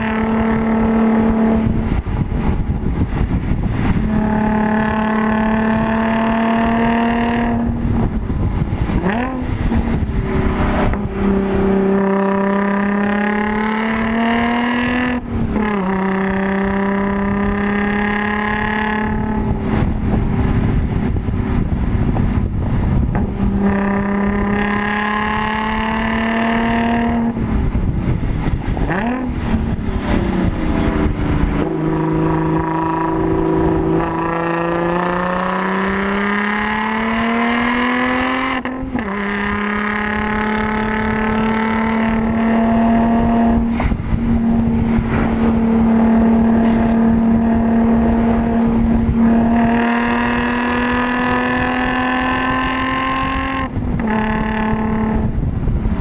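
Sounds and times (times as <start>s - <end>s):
car engine pulling hard: 0.0s - 56.0s.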